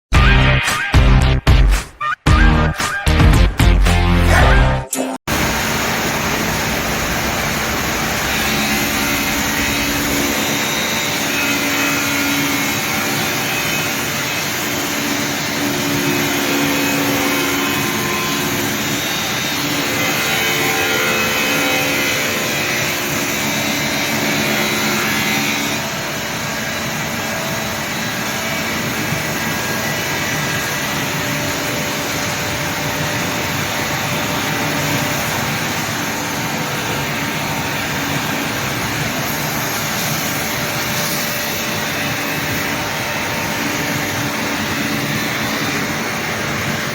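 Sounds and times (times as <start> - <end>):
glass grinding machine whirring: 5.3 - 46.9.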